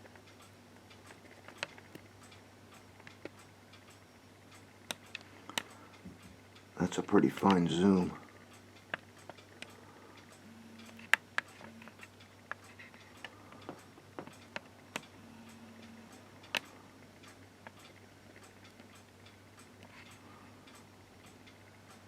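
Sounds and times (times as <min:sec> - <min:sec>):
low steady hum: 0:00.0 - 0:22.0
small clicks and ticks: 0:00.0 - 0:22.0.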